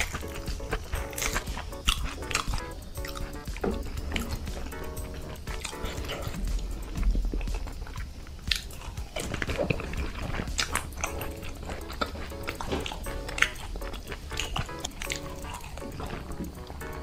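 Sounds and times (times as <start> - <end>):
wet mouth clicks: 0.0 - 16.9
crisp chewing crunches: 0.0 - 17.0.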